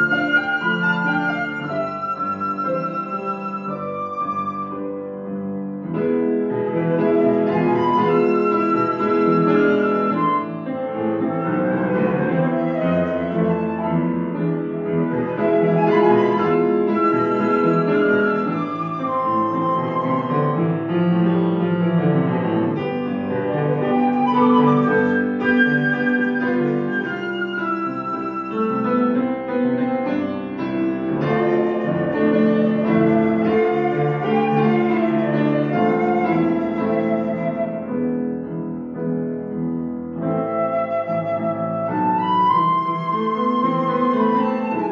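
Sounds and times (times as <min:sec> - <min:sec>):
flute melody: 0:00.0 - 0:44.9
piano playing: 0:00.0 - 0:44.9.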